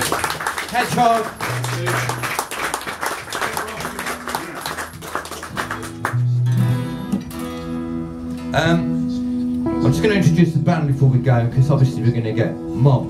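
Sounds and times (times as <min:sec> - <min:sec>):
acoustic guitars strumming: 0:00.0 - 0:13.0.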